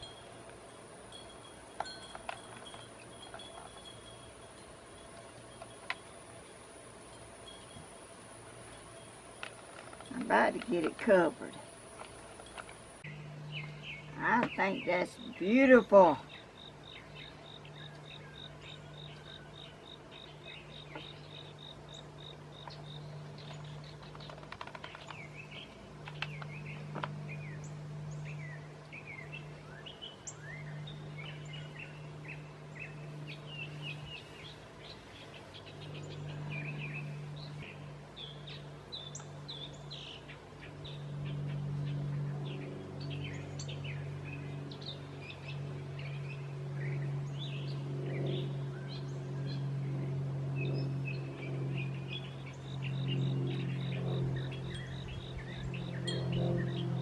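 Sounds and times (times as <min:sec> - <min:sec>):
low hum: 0:00.0 - 0:57.0
songbirds chirping: 0:00.0 - 0:57.0.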